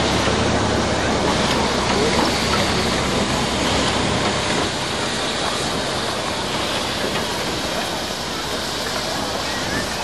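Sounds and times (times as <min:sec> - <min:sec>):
steam locomotive rolling past: 0:00.0 - 0:10.0.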